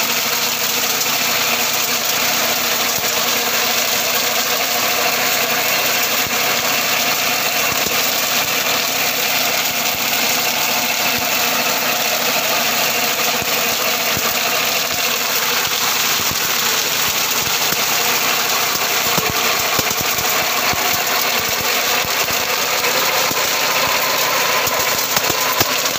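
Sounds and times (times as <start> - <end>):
machine rattling and clattering: 0.0 - 25.9
tractor engine running: 0.0 - 25.9.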